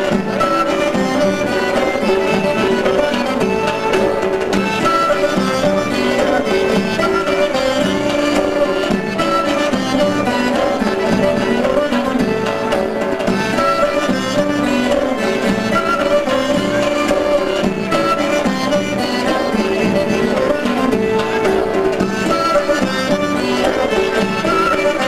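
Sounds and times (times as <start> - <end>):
folk dance music with fiddle: 0.0 - 25.0.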